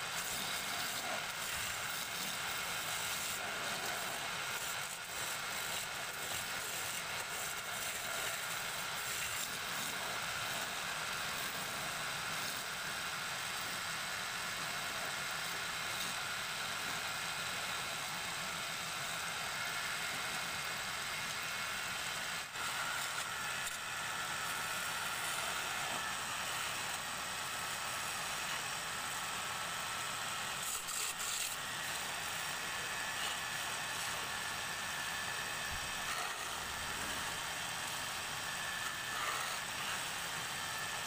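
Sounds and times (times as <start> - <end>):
chisel cutting spinning wood: 0.0 - 41.0
wood lathe whirring: 0.0 - 41.0.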